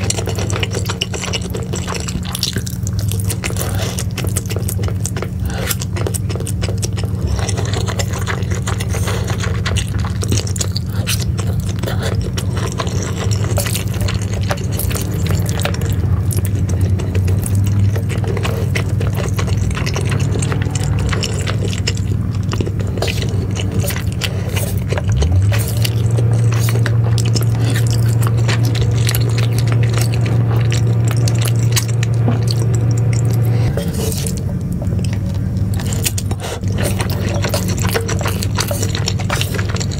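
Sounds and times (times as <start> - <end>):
low hum: 0.0 - 39.9
wet chewing and slurping: 0.0 - 39.9.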